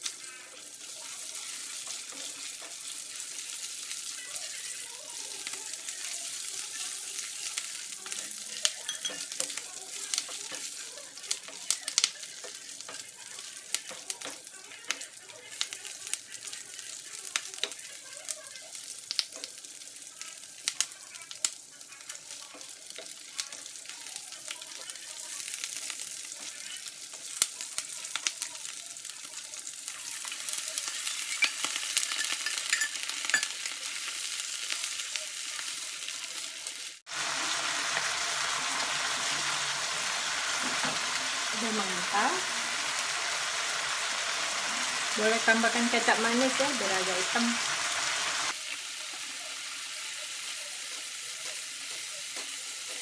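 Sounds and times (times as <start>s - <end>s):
chicken sizzling in a wok: 0.0s - 53.0s.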